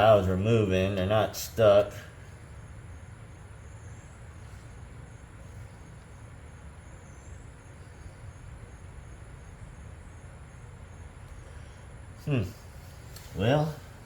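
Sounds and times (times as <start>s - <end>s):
faint high insect-like chirps: 0.0s - 14.0s.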